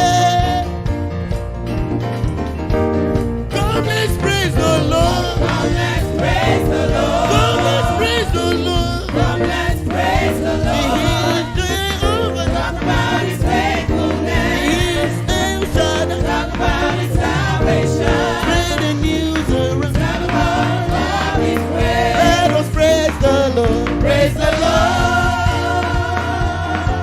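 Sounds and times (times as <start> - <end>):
band with bass and drums: 0.0 - 27.0
church choir singing: 4.5 - 27.0.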